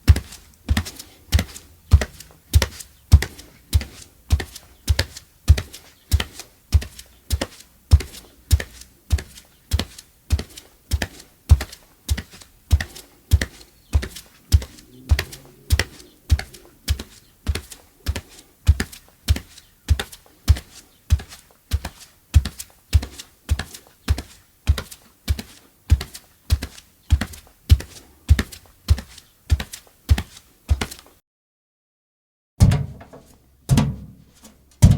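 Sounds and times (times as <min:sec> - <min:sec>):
bare footsteps thudding: 0:00.0 - 0:31.0, 0:32.6 - 0:34.9.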